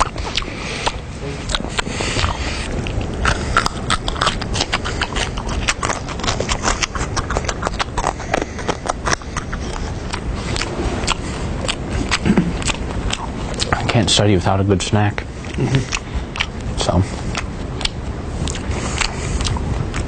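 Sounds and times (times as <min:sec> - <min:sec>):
crunchy chewing of food: 0:00.0 - 0:20.0.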